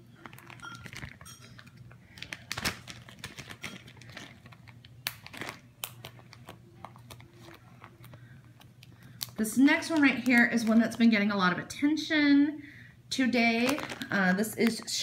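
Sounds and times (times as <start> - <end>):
plastic bags crinkling: 0.0 - 11.4, 13.4 - 15.0.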